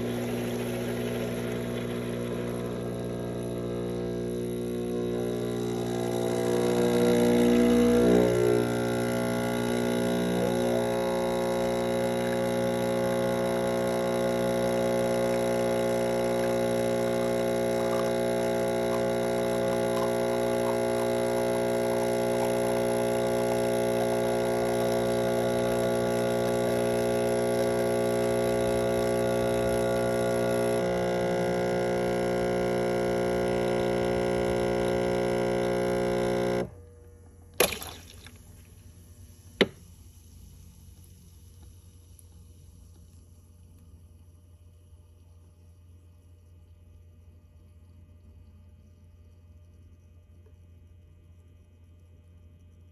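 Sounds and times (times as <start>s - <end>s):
espresso machine pump droning: 0.0s - 44.4s.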